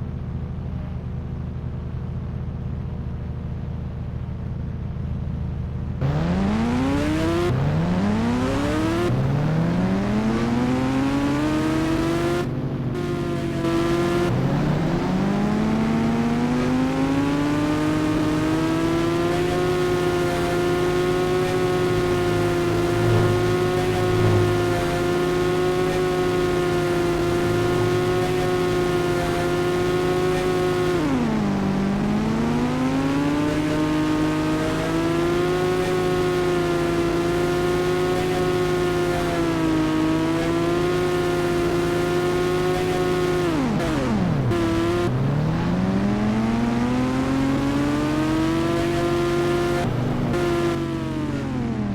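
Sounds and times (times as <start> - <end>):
motorcycle engine accelerating: 6.0 - 51.9.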